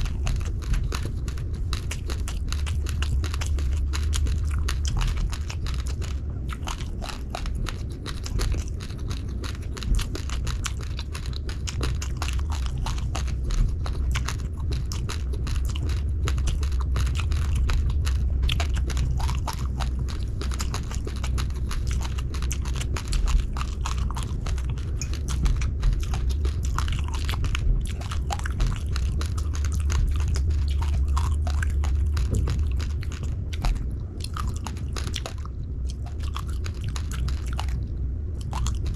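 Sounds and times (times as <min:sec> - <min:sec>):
chewing raw rice crunches: 0:00.0 - 0:38.9
low rumble: 0:00.0 - 0:38.9.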